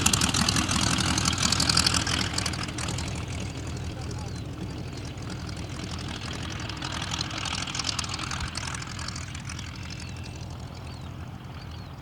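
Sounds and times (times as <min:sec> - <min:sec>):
biplane engine droning: 0:00.0 - 0:12.0.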